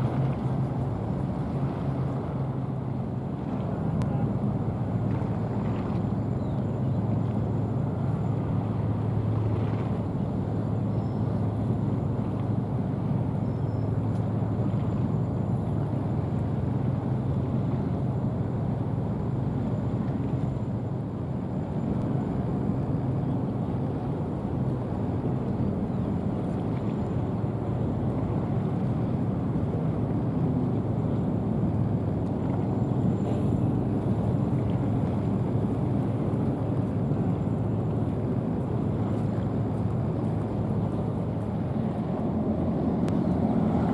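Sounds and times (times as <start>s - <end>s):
turbine low hum with whine: 0.0s - 43.9s.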